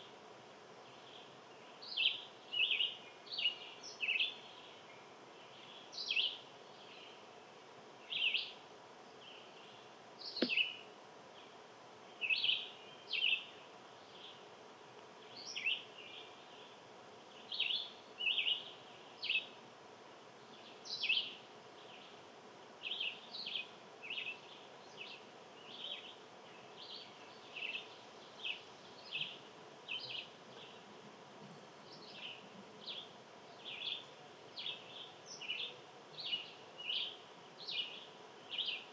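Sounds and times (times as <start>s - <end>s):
small birds chirping: 0.8s - 19.6s, 20.3s - 38.9s.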